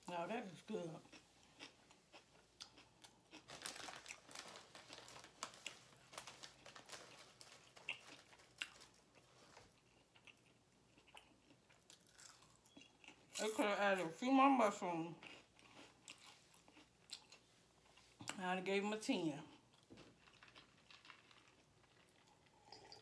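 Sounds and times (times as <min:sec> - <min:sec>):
close-up chewing: 0:01.0 - 0:13.4, 0:15.2 - 0:18.4, 0:19.5 - 0:23.0.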